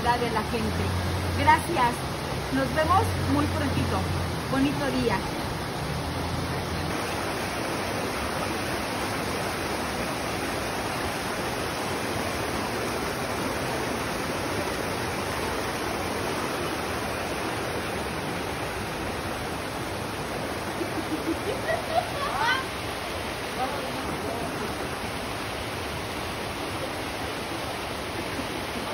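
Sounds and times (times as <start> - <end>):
river rushing over boulders: 0.0 - 28.9.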